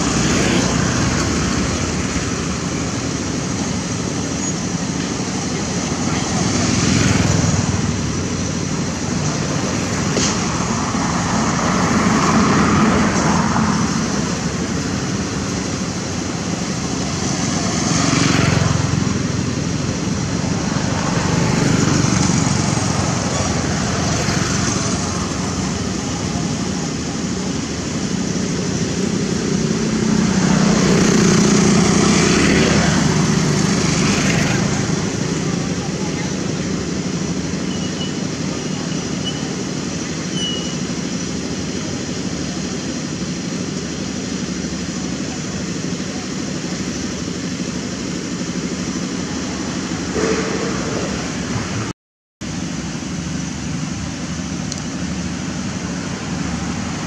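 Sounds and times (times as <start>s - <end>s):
motorbikes passing: 0.0s - 51.9s.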